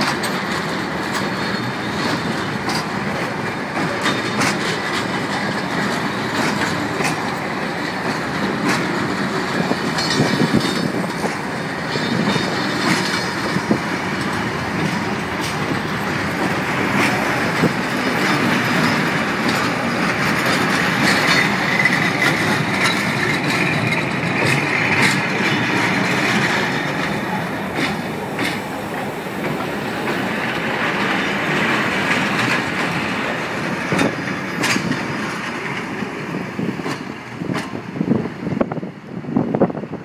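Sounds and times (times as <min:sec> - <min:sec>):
wheels clicking over rail joints: 0:00.0 - 0:39.8
train wheels on rail: 0:00.0 - 0:40.0.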